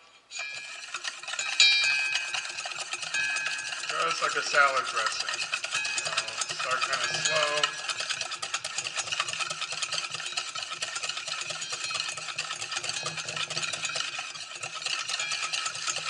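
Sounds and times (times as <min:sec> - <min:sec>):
whisk scraping metal bowl: 0:00.2 - 0:16.0.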